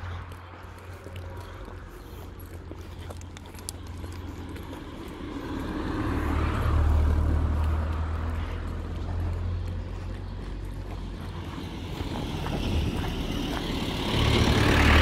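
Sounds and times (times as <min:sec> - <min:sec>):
car passing: 0:00.0 - 0:15.0.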